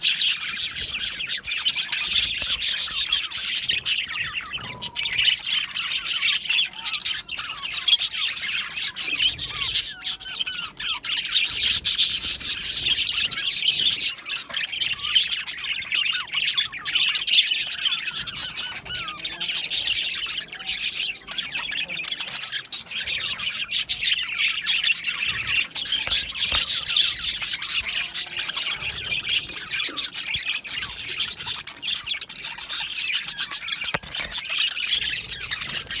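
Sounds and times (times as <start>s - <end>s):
budgerigars chattering: 0.0s - 36.0s.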